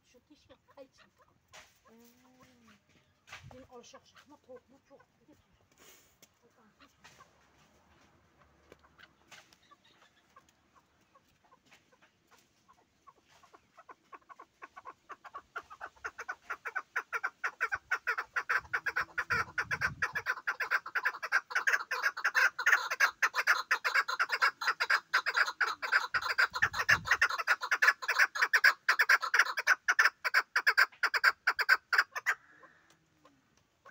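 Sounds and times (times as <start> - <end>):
partridge clucking calls: 0.0 - 33.9.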